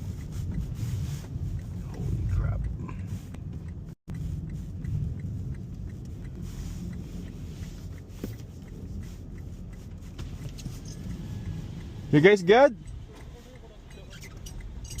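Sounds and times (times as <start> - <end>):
car interior low rumble: 0.0 - 15.0.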